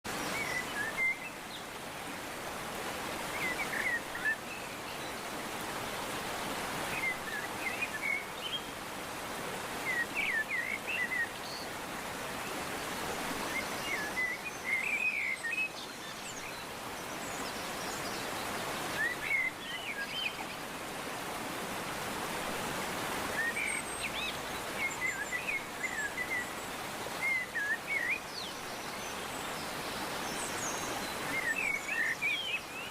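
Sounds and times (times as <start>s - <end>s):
waterfall rushing: 0.1s - 32.9s.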